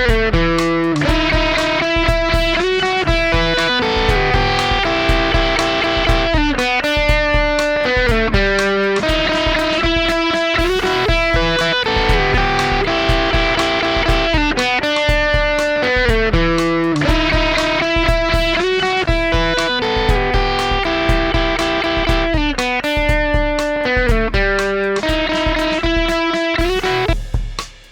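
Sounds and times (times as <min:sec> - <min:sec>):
electric guitar melody: 0:00.0 - 0:27.2.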